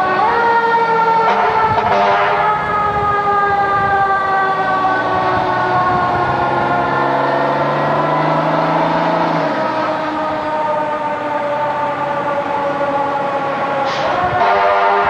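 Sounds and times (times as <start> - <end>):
diesel engine rumble: 0.0 - 15.0
fire truck siren wailing: 0.0 - 15.0.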